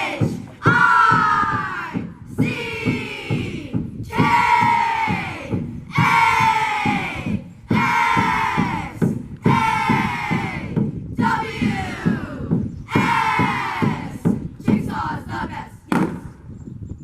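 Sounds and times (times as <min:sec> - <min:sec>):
steady beat of thumps: 0:00.0 - 0:16.3.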